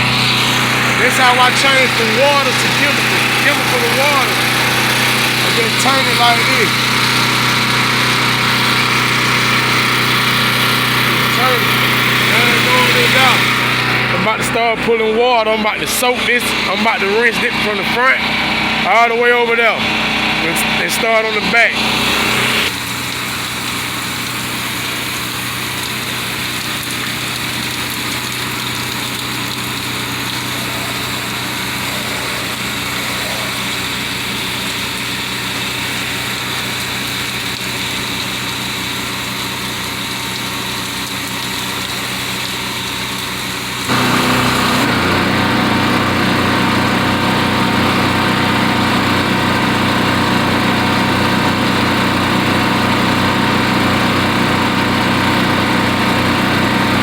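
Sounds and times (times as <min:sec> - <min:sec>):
pressure washer hiss: 0:00.0 - 0:14.8, 0:20.6 - 0:57.0
pressure washer engine running: 0:00.0 - 0:57.0.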